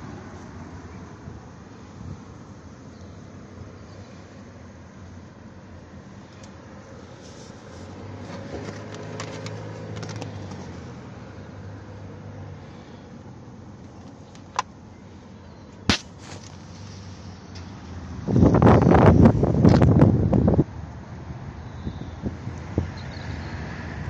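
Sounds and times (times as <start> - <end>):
car engine idling: 0.7 - 20.8.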